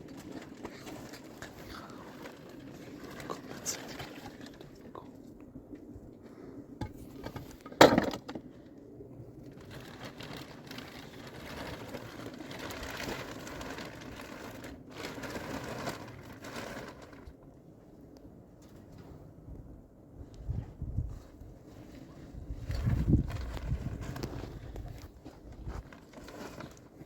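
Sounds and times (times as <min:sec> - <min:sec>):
rustling handling noise: 0:00.0 - 0:19.5, 0:20.3 - 0:27.0.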